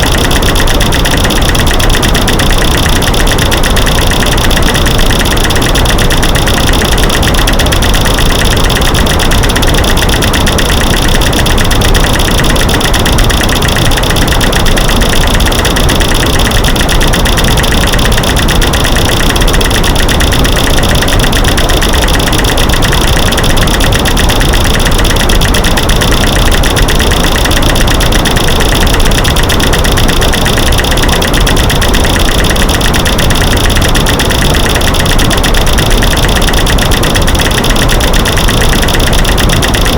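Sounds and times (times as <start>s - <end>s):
rapid stream of clicks and knocks: 0.0s - 39.9s.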